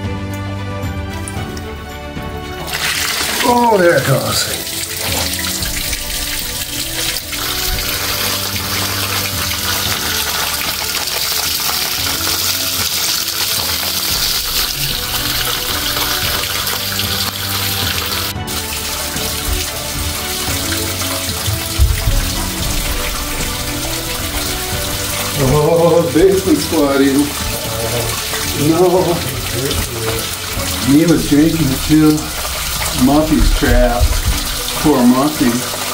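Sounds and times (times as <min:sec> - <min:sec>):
background music: 0:00.0 - 0:35.9
water gushing onto floor: 0:00.0 - 0:35.9.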